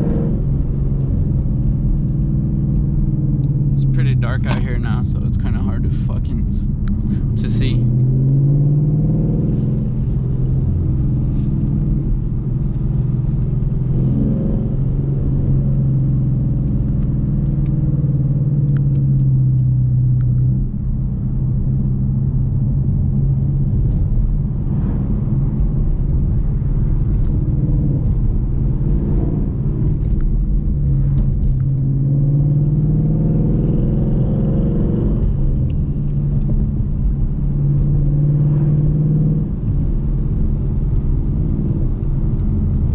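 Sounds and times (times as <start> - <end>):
car engine driving: 0.0 - 42.9
road noise: 0.0 - 42.9.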